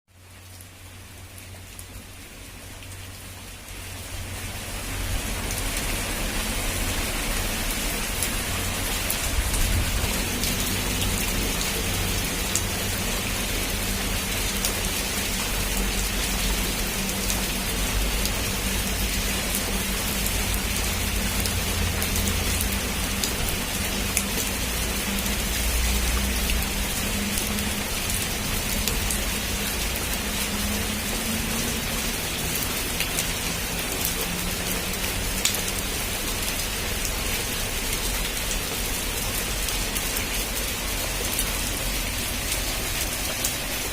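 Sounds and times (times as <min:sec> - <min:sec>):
heavy rain: 0:00.1 - 0:43.9.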